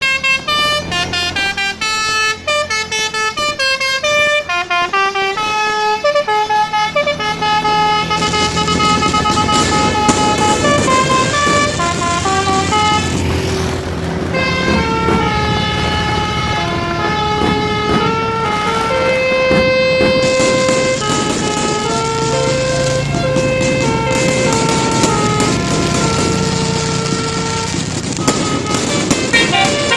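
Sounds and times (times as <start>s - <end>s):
bus air horn melody: 0.0s - 29.9s
rushing crackling noise: 0.0s - 29.9s.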